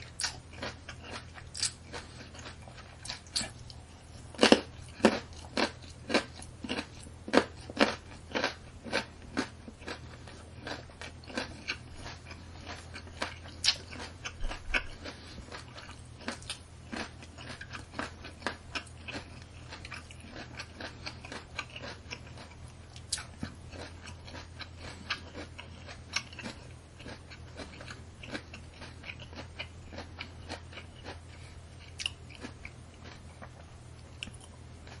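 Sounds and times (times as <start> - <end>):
raw carrot being chewed: 0.0 - 35.0
steady low hum: 0.0 - 35.0.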